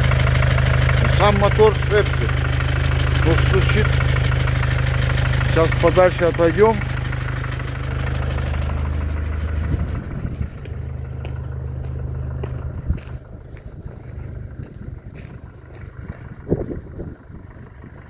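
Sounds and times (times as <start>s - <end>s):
diesel engine idling: 0.0s - 18.0s
engine knock tapping: 0.0s - 18.0s.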